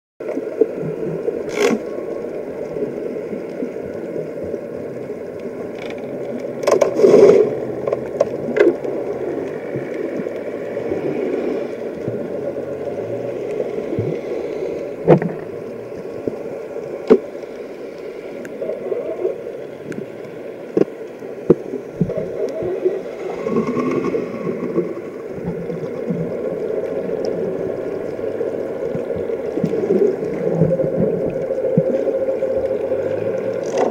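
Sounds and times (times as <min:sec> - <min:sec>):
underwater rush: 0:00.2 - 0:33.9.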